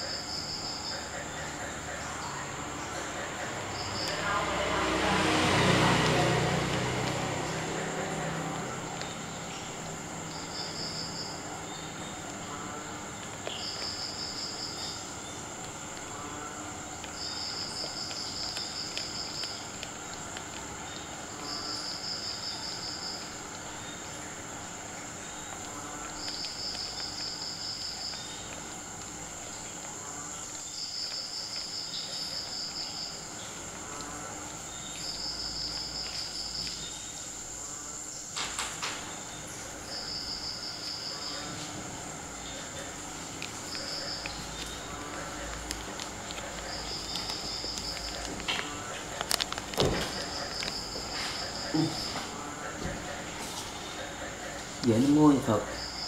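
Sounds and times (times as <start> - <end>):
crickets trilling: 0.0 - 56.0
high insect whine: 0.0 - 56.0.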